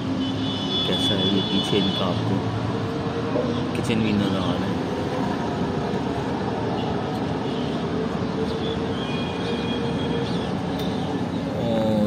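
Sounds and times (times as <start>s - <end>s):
road traffic noise: 0.0s - 12.0s
vehicle engine drone: 1.2s - 12.0s.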